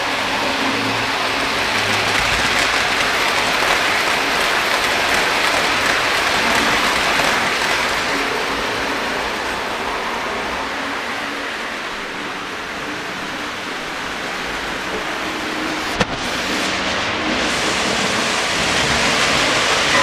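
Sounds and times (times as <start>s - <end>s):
model train wheels on rails: 0.0s - 20.0s.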